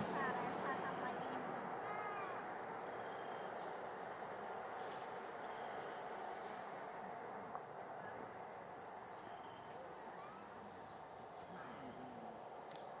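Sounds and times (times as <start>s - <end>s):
crickets shrilling: 0.0s - 13.0s
faint outdoor hiss: 0.0s - 13.0s.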